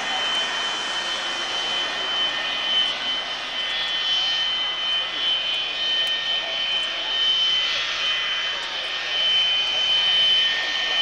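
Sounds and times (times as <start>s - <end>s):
jet aircraft taxiing: 0.0s - 11.0s.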